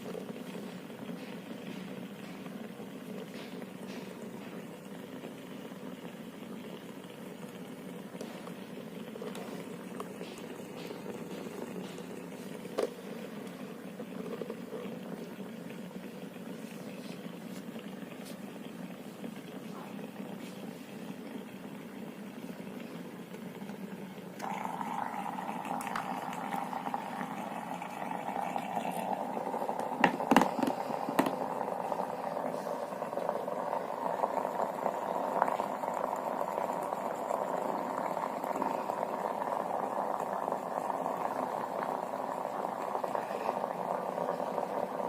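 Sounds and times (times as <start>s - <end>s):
steam vaporizer bubbling hiss: 0.0s - 45.0s.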